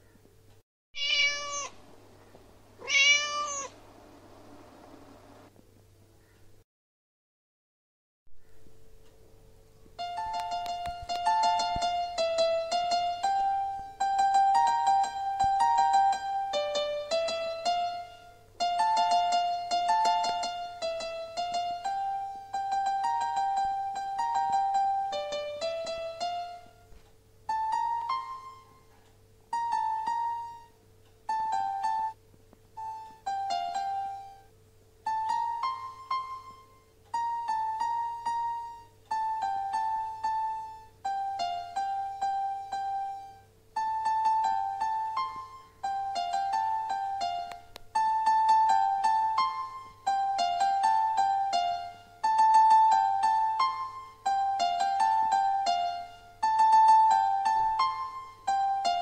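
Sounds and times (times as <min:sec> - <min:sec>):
faint steady hum: 0:00.0 - 0:06.6, 0:08.4 - 0:59.0
piano-like keyboard melody: 0:09.9 - 0:59.0.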